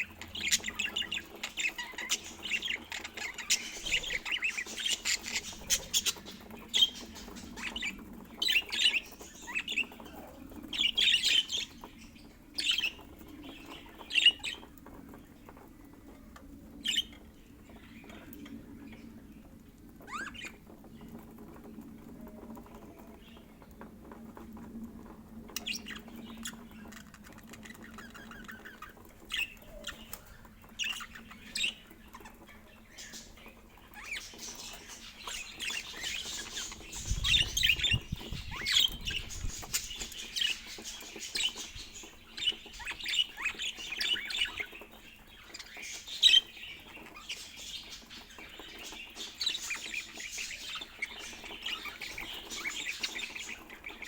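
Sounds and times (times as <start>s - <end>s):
budgerigars chirping: 0.0s - 15.1s, 25.5s - 54.0s.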